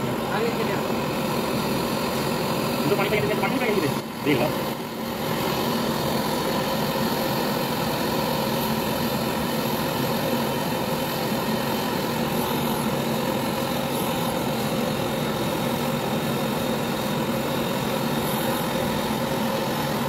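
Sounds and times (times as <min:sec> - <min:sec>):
gas torch flame hissing: 0:00.0 - 0:20.0.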